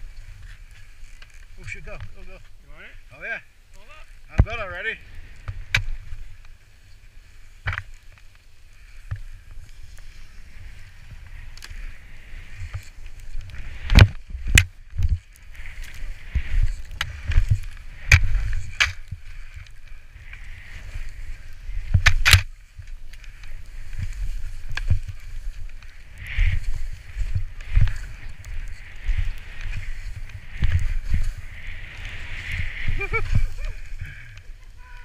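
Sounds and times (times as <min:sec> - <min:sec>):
skis swishing through snow: 0:00.0 - 0:35.0
wind rumbling on microphone: 0:00.0 - 0:35.0.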